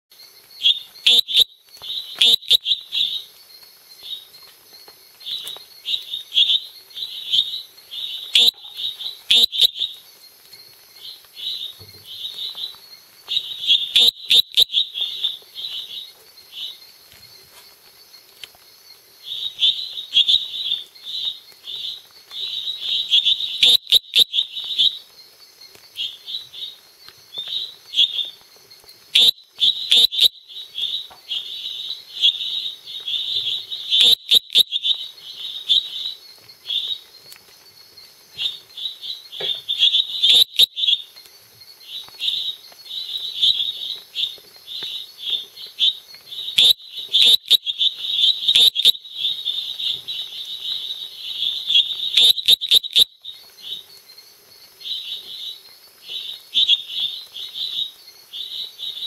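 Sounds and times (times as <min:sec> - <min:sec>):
tree frog calling: 0:00.4 - 0:04.4, 0:05.2 - 0:17.6, 0:18.4 - 0:37.0, 0:38.4 - 0:54.1, 0:54.8 - 0:59.0.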